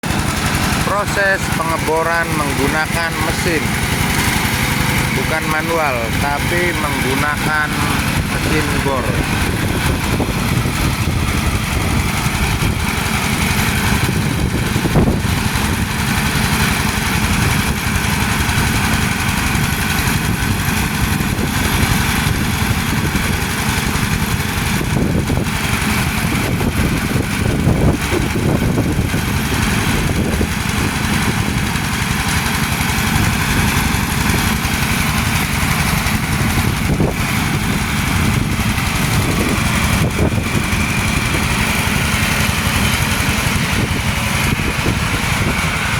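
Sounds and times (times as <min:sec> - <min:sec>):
drilling rig engine running: 0:00.0 - 0:45.9.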